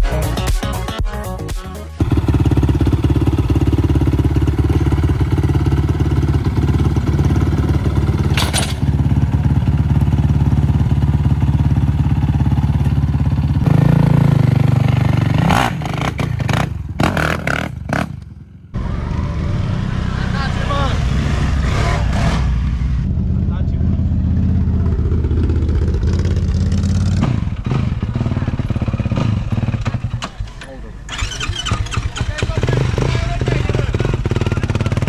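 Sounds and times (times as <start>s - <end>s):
quad bike engine revving: 2.0s - 35.0s.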